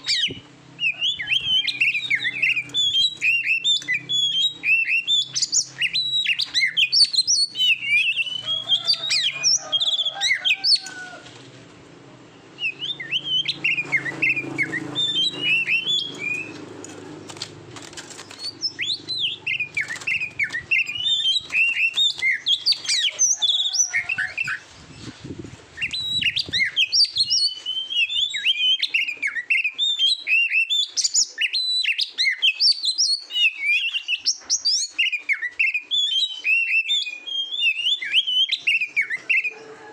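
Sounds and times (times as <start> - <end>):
bird singing whistled notes: 0.0 - 10.9, 12.6 - 16.6, 18.3 - 24.6, 25.8 - 39.5.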